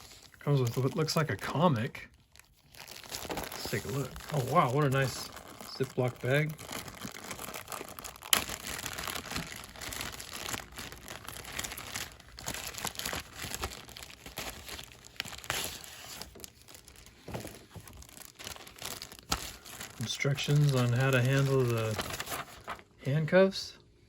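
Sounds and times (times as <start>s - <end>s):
plastic bag crinkling: 0.0s - 23.0s
papers shifting: 2.5s - 22.9s.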